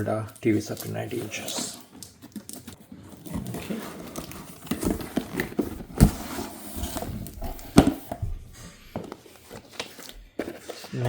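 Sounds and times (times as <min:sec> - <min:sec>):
cardboard and packaging rustling: 0:00.0 - 0:11.0.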